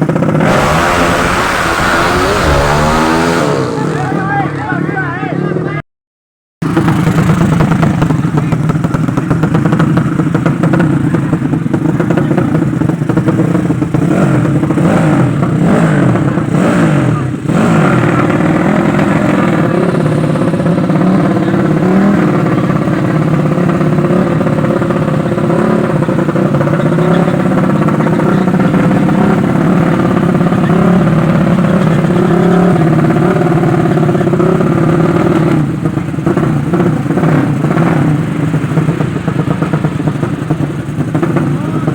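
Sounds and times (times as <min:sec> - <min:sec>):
motorcycle engines revving high: 0:00.0 - 0:05.7, 0:06.6 - 0:41.9.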